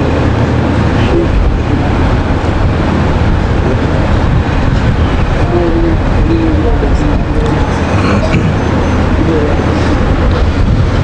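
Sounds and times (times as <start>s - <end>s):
loud steady rumbling: 0.0s - 11.0s.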